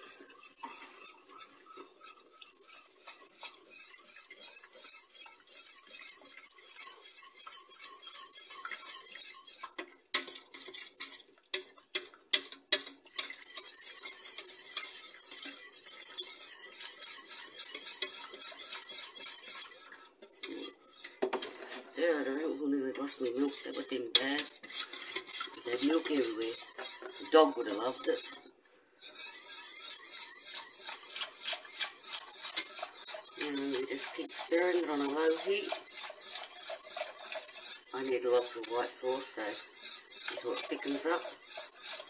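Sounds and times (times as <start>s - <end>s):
whisk scraping a saucepan: 0.0s - 42.0s.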